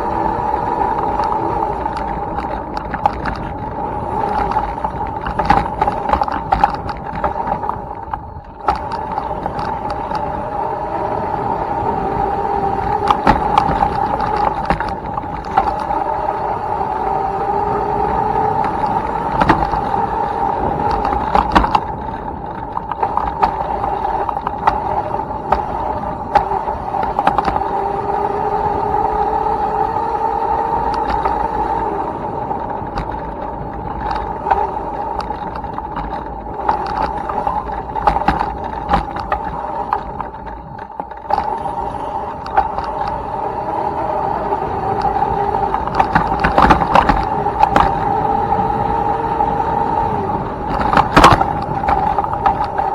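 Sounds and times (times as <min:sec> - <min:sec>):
bike knocking and rattling: 0:00.0 - 0:52.9
electric motor whining: 0:00.0 - 0:52.9.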